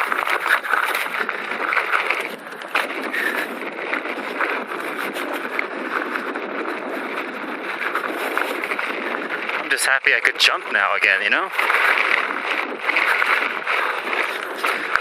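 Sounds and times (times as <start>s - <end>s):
tyres rolling on dirt trail: 0.0s - 15.0s
wind rushing over microphone: 0.0s - 15.0s.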